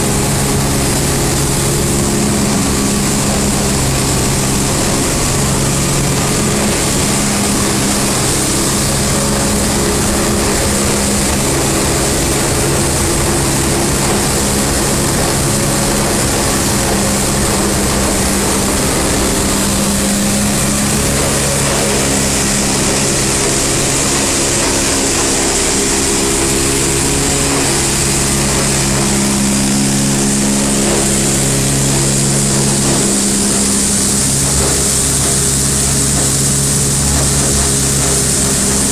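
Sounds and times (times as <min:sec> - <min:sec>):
machinery motors humming: 0:00.0 - 0:38.9.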